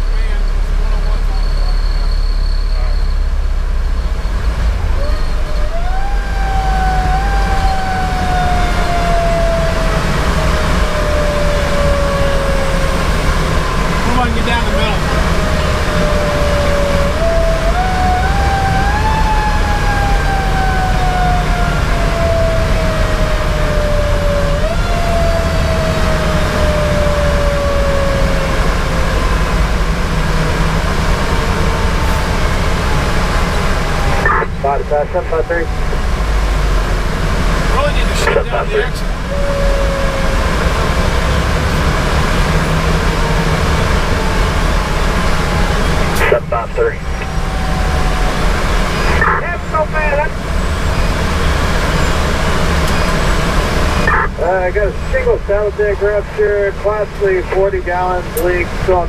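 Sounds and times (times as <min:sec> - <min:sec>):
diesel engine rumble: 0:00.0 - 0:59.0
road noise: 0:00.0 - 0:59.0
mechanical siren winding down: 0:04.8 - 0:54.5.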